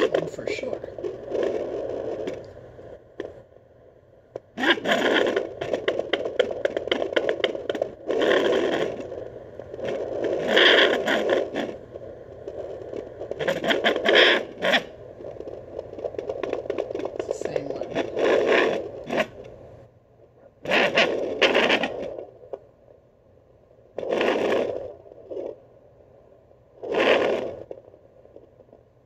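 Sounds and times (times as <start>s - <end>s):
doppler speaker crackling static: 0.0s - 29.0s.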